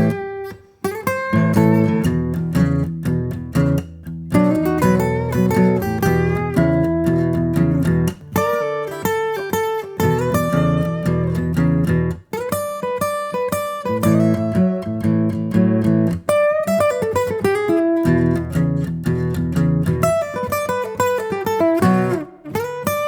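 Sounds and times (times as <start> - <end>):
plucked acoustic guitar: 0.0 - 23.0.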